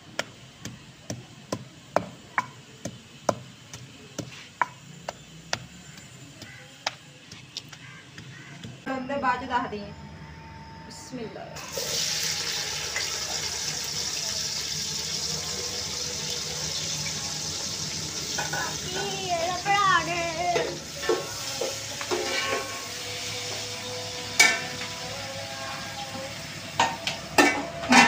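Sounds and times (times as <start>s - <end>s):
onions sizzling in hot oil: 0.0s - 8.7s, 11.6s - 28.0s.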